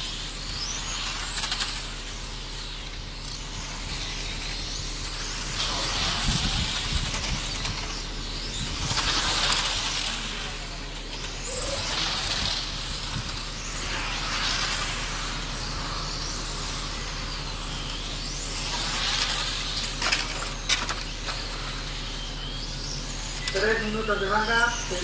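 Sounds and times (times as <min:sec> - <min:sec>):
electric motor whine of passing cars: 0:00.0 - 0:25.0.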